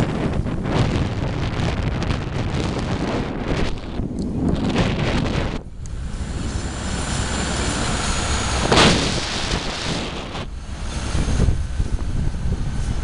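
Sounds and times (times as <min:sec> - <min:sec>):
low road rumble: 0:00.0 - 0:13.0
wind buffeting microphone: 0:00.0 - 0:13.0.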